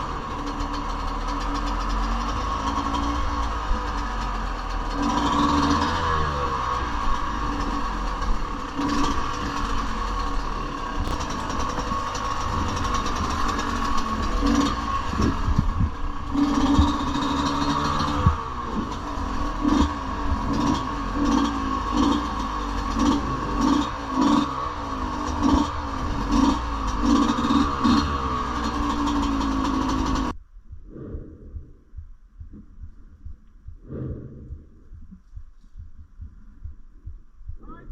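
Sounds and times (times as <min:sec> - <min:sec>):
dirt bike engine revving: 0:00.0 - 0:30.4.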